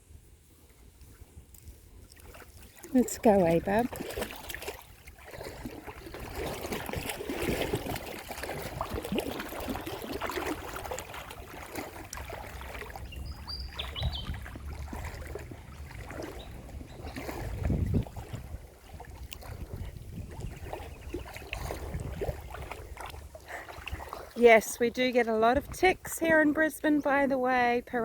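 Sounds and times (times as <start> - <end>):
creek water sloshing and trickling: 0.2 - 28.0
small splashes: 1.0 - 25.3.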